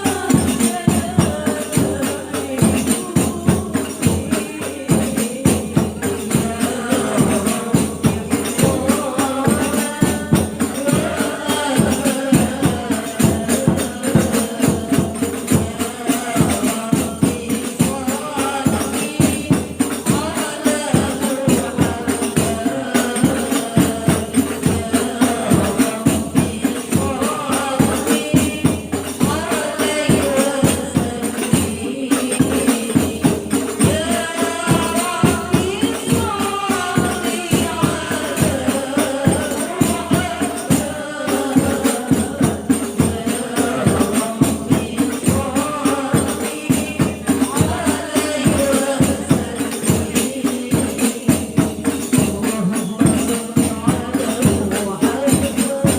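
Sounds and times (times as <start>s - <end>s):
frame drums beating: 0.0s - 55.9s
jingling tambourines: 0.0s - 55.9s
women singing together: 0.0s - 55.9s.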